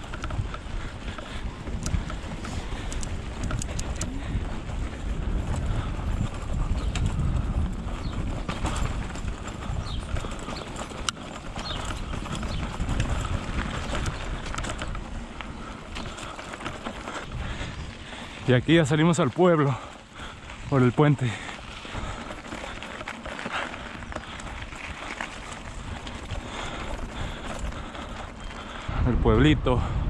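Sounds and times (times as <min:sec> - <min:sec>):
bike rattling clicks and knocks: 0:00.0 - 0:29.0
wind rumbling on microphone: 0:00.0 - 0:30.0.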